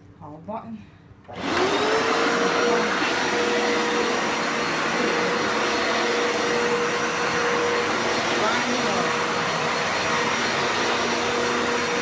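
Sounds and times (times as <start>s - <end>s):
carpet washer motor whine: 1.3s - 12.0s.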